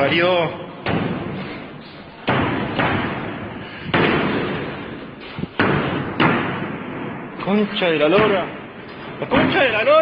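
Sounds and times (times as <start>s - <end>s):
heavy echoing bangs: 0.0s - 10.0s.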